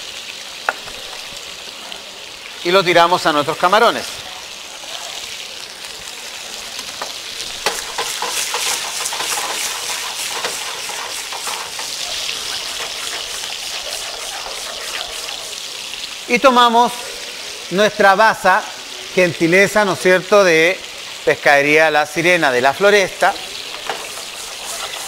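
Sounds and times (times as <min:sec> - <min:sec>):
food sizzling in frying pans: 0:00.0 - 0:25.0.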